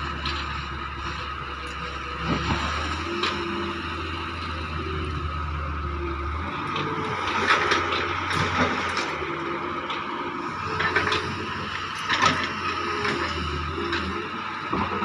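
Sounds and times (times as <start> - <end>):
excavator diesel engine running: 0.0 - 15.0
hydraulic whine: 0.0 - 15.0.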